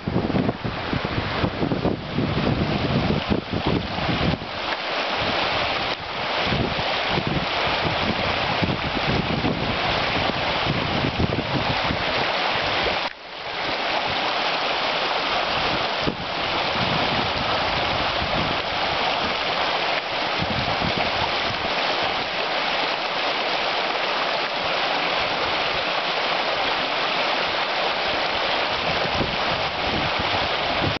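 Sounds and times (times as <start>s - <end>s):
stream rushing over stones: 0.0s - 31.0s.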